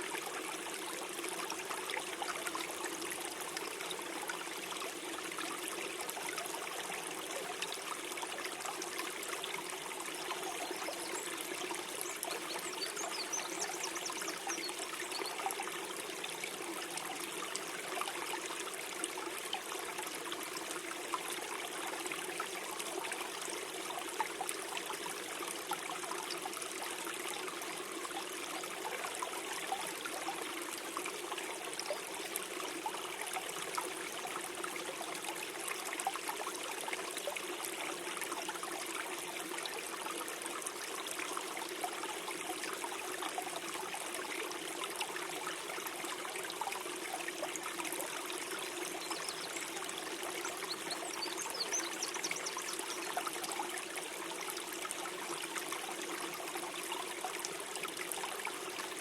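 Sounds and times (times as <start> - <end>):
stream flowing and gurgling: 0.0 - 59.0.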